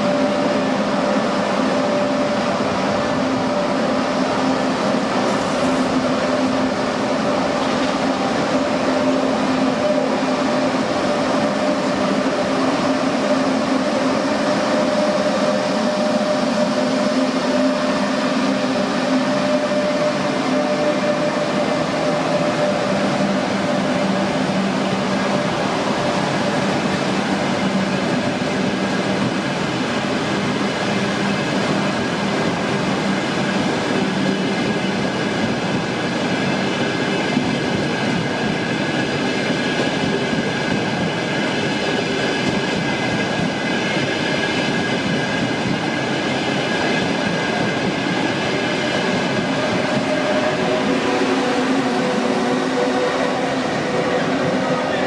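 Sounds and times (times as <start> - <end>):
train running with droning tones: 0.0 - 55.0.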